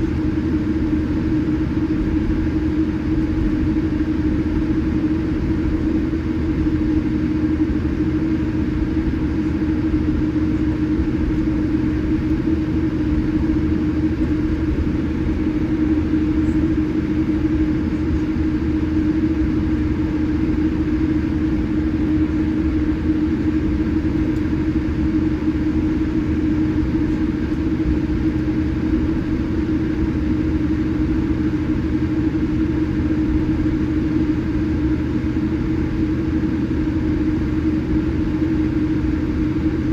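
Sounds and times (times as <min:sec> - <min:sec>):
aircraft cabin drone: 0:00.0 - 0:39.9.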